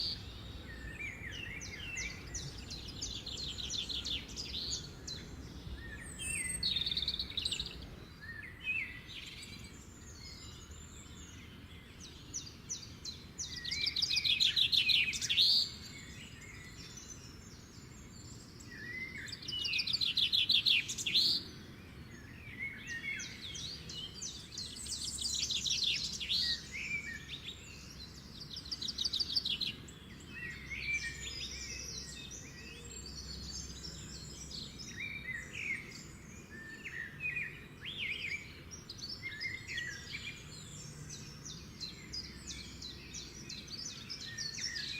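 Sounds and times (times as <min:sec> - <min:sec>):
songbirds chirping and singing: 0:00.0 - 0:44.9.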